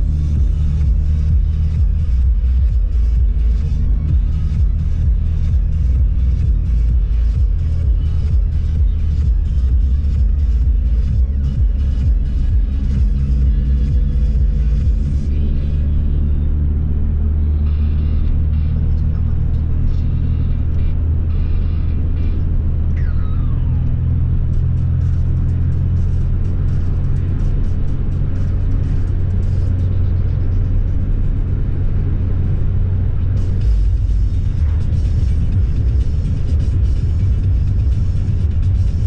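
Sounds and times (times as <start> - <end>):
car engine and road rumble: 0.0 - 39.0
music playing: 0.0 - 39.0.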